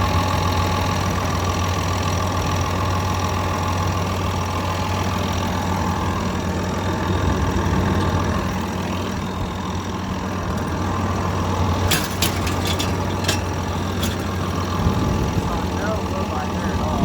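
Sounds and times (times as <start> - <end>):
bulldozer diesel engine idling: 0.0 - 17.0.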